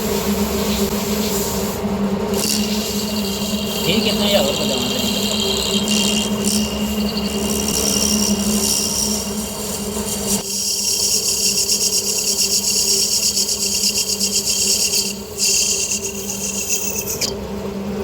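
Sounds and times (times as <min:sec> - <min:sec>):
lathe motor hum: 0:00.0 - 0:18.0
tool rasping against metal: 0:02.3 - 0:17.4.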